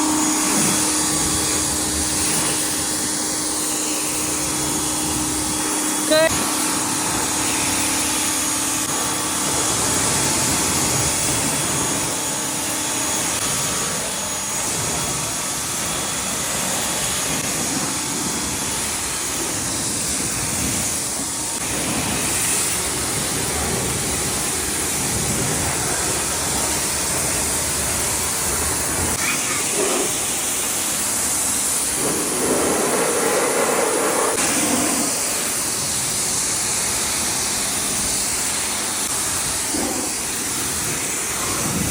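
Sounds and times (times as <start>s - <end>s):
pressure wand spraying water: 0.0s - 41.9s.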